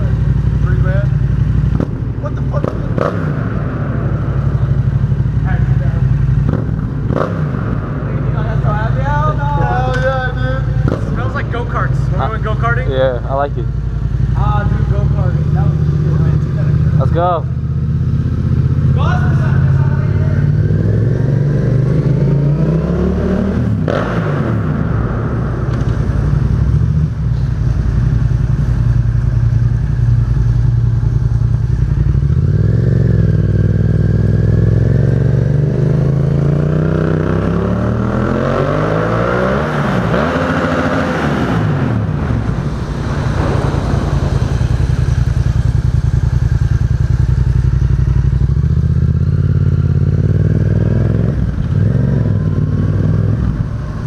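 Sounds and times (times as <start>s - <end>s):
engine idling and revving: 0.0s - 54.0s.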